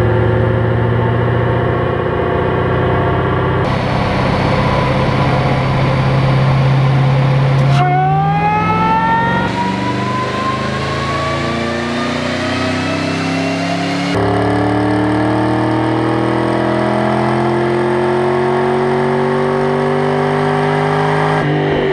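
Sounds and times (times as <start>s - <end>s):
car engine on dynamometer: 0.0s - 21.9s.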